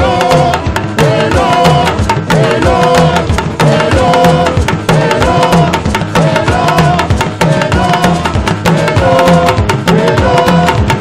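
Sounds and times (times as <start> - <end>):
hand drum and drum kit: 0.0 - 11.0
live praise music: 0.0 - 11.0.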